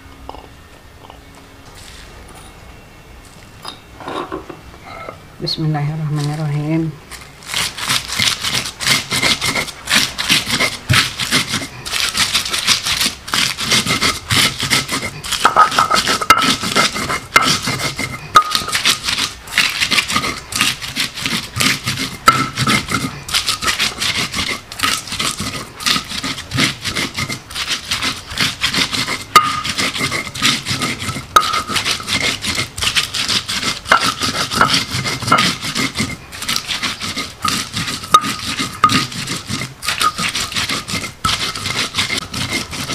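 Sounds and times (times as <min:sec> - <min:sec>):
stone grinding on stone: 0:07.1 - 0:42.9.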